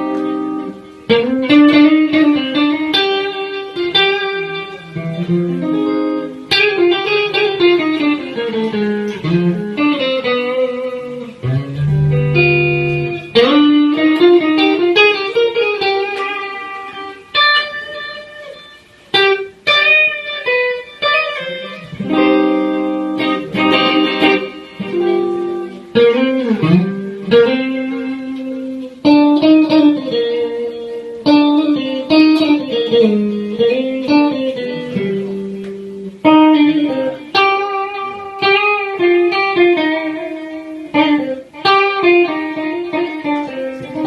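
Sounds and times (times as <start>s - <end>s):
electric guitar single-note runs: 0.0s - 44.0s.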